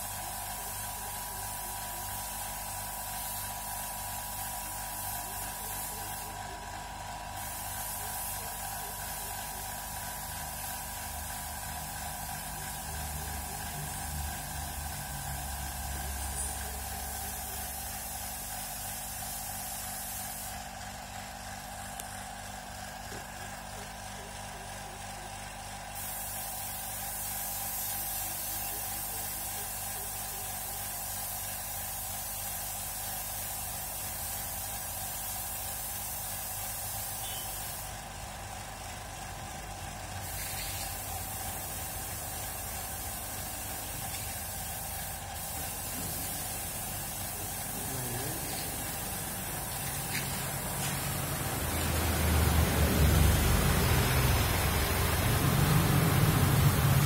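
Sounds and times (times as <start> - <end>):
paint spray gun hissing: 0.0 - 57.0.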